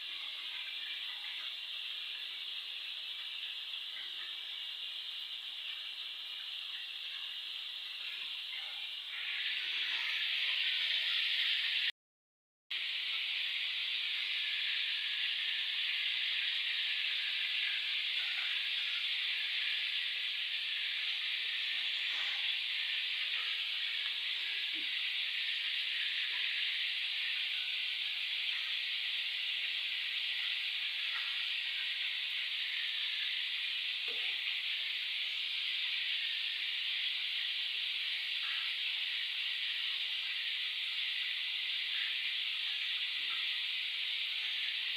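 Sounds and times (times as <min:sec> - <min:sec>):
chicken sizzling in hot oil: 0:00.0 - 0:11.9, 0:12.7 - 0:44.9.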